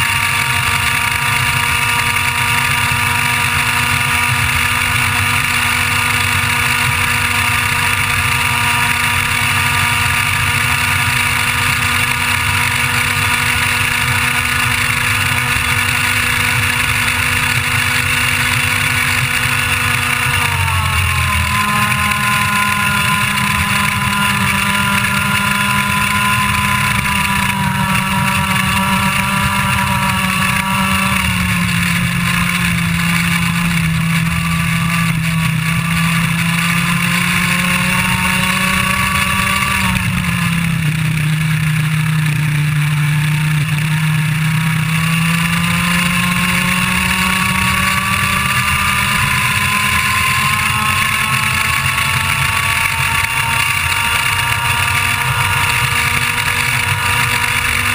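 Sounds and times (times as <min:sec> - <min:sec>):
kart engine revving: 0:00.0 - 0:57.9.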